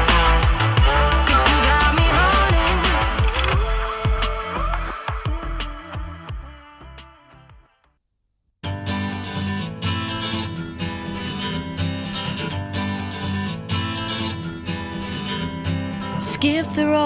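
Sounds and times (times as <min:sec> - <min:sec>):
strummed acoustic guitar and bass: 0:00.0 - 0:07.4, 0:08.7 - 0:17.0.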